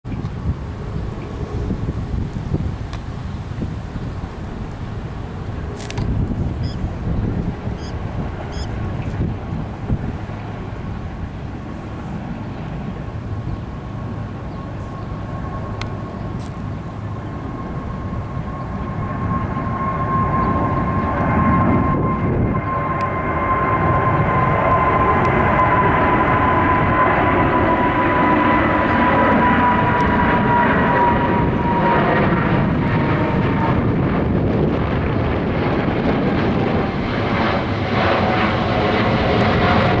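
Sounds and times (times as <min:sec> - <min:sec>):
jet engines climbing: 0:00.0 - 0:40.0.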